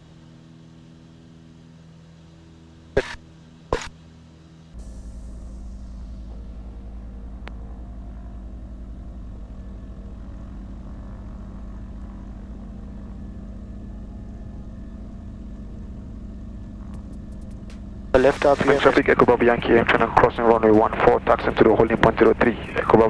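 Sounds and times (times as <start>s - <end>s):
aircraft propeller engines droning: 0.0s - 23.0s.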